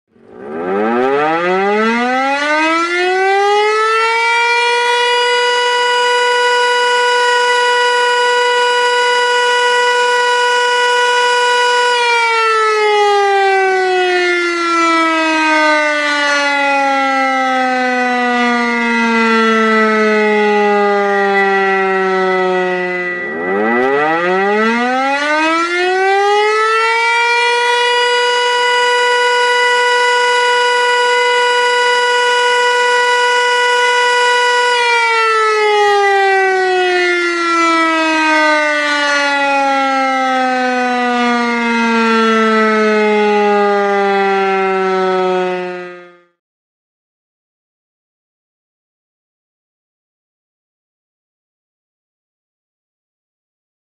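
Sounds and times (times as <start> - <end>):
warning siren wailing: 0.1 - 46.4.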